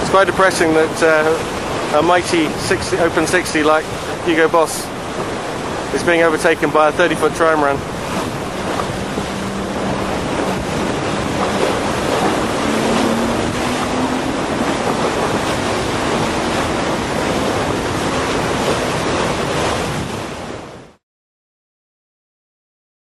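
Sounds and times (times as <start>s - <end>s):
wind buffeting microphone: 0.0s - 20.9s
waves on open water: 0.0s - 21.0s.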